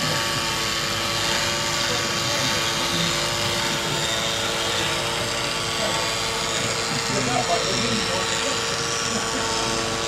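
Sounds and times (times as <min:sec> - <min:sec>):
machine drone whirring: 0:00.0 - 0:10.0.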